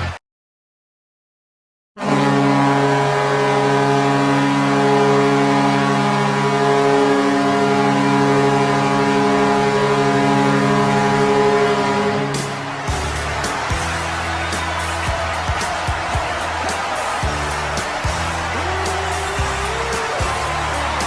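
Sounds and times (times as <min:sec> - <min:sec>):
arena goal horn blast: 0:02.0 - 0:21.0.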